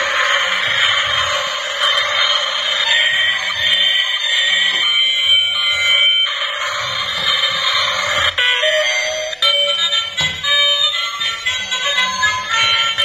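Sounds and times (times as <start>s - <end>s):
toy train electronic tune: 0.0s - 13.0s.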